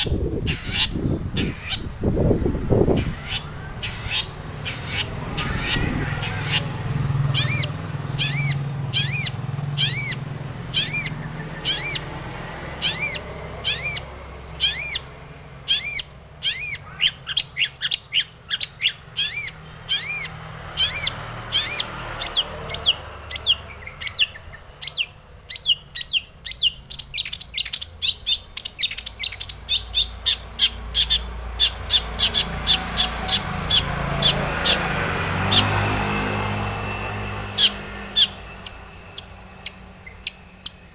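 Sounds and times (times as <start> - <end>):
bird calling with sharp notes: 0.0 - 40.9.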